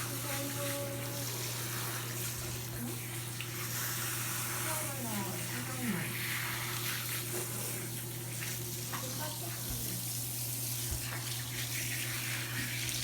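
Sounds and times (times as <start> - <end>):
tap water running: 0.0 - 13.0.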